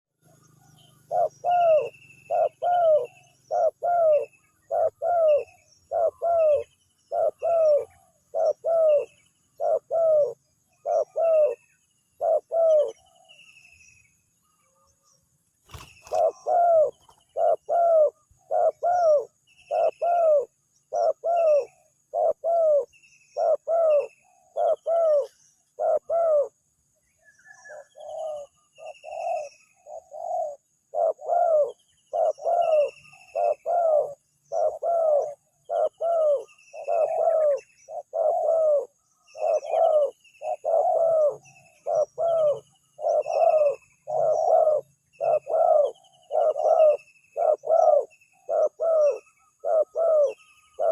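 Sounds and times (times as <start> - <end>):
small birds chirping faintly: 0.2 - 50.9
dove cooing: 0.3 - 13.4, 15.7 - 26.7, 27.5 - 50.9.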